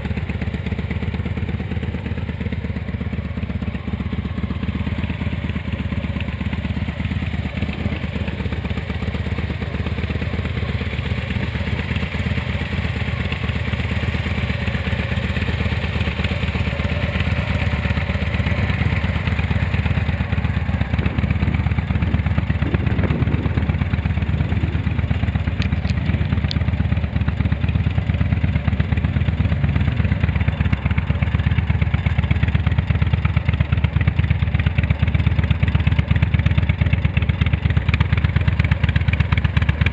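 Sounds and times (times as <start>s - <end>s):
motorcycle exhaust pulsing: 0.0s - 39.9s.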